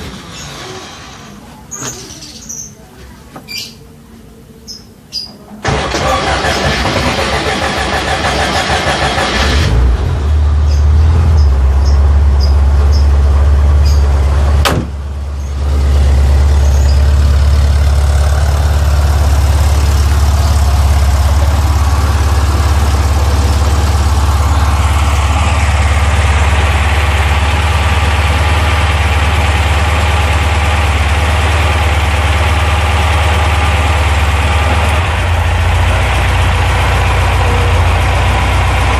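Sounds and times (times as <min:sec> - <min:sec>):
car engine idling: 0:05.6 - 0:38.9.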